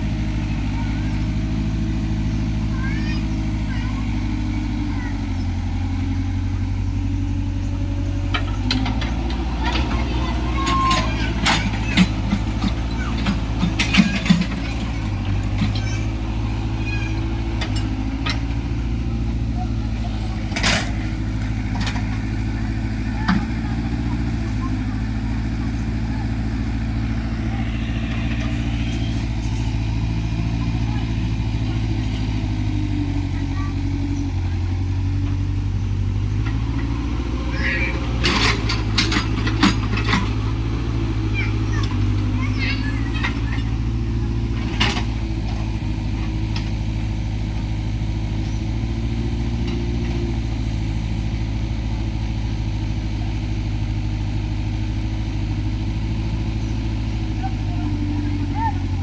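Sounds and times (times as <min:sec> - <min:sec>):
diesel engine running steadily: 0:00.0 - 0:59.0.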